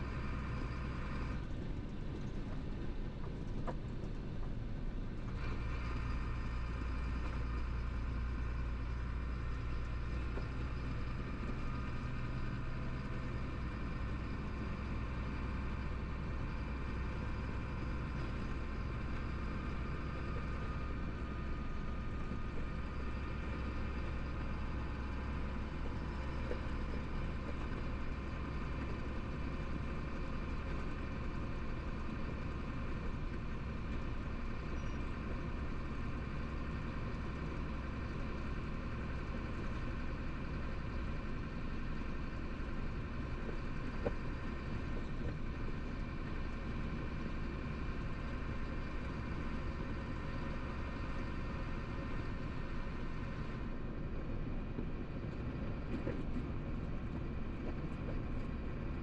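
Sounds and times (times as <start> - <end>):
diesel engine humming: 0.0 - 59.0
road and cab noise: 0.0 - 59.0.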